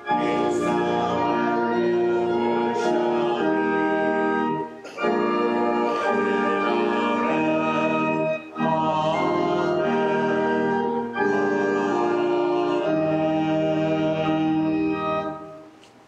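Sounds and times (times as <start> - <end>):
voices singing: 0.0 - 15.6
church organ playing a hymn: 0.0 - 15.8.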